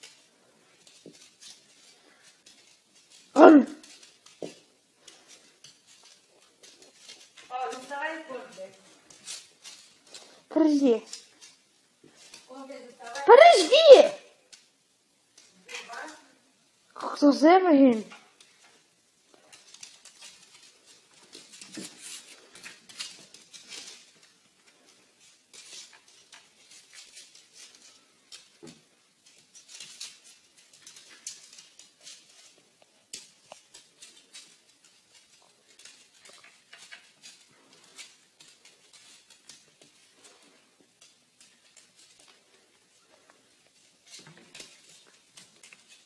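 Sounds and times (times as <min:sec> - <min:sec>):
cat claws scrabbling on wood floor: 0:00.0 - 0:13.3, 0:18.1 - 0:46.0.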